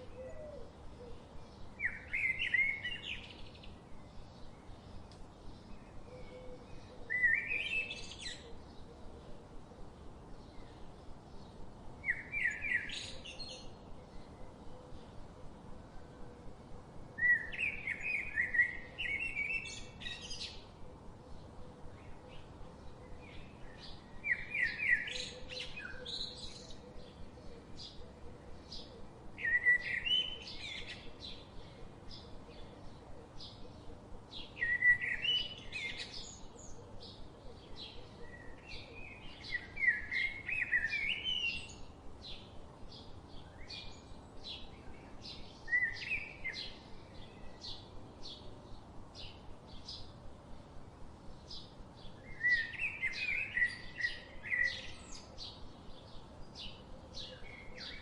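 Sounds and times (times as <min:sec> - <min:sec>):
songbird song phrases: 0:00.0 - 0:58.0.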